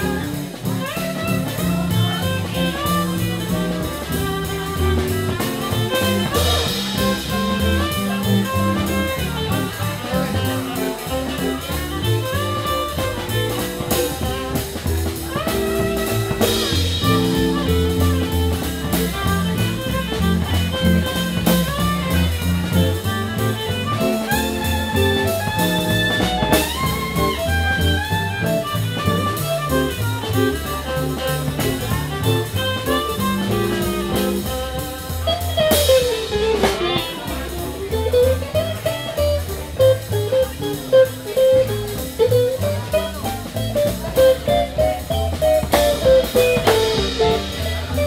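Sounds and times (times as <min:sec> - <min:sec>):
double bass: 0:00.0 - 0:48.0
drums: 0:00.0 - 0:48.0
rhythm guitar: 0:00.0 - 0:48.0
violin melody: 0:00.0 - 0:48.0.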